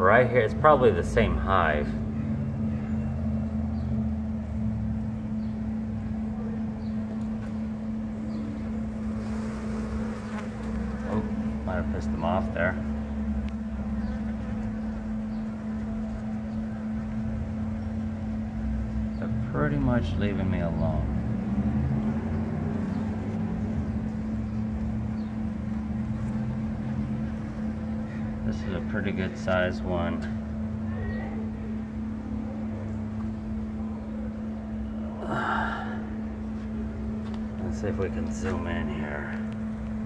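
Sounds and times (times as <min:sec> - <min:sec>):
bee swarm humming: 0:00.8 - 0:40.0.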